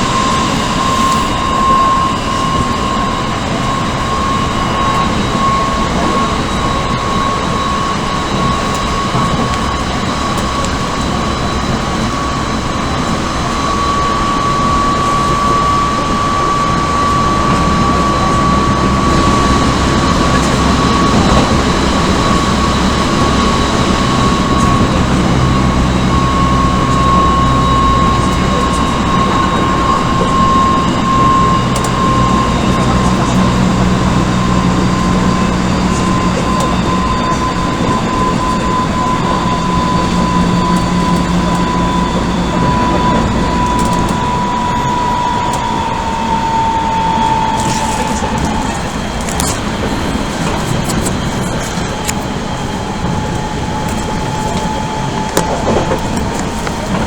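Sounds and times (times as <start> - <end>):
electric motor whine: 0.0 - 57.0
train running noise: 0.0 - 57.0.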